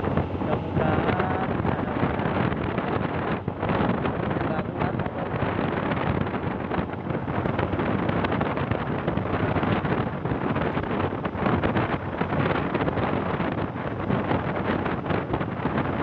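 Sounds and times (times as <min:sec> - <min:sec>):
road noise: 0:00.0 - 0:16.0
vehicle engine: 0:00.0 - 0:16.0
wind buffeting microphone: 0:00.0 - 0:16.0.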